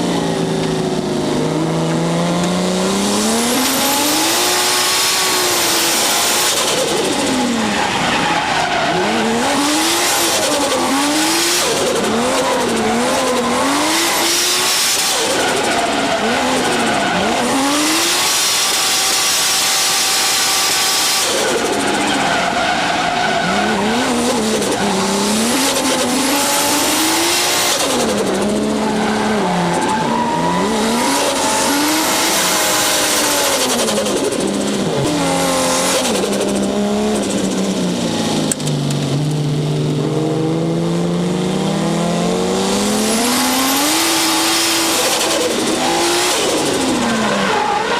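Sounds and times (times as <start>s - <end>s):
turbocharged engine revving: 0.0s - 47.9s.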